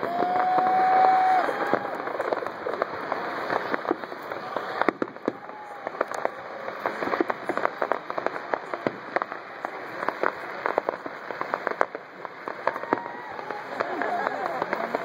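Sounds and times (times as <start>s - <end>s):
fireworks crackling and popping: 0.0s - 15.0s
steady hiss: 0.4s - 15.0s.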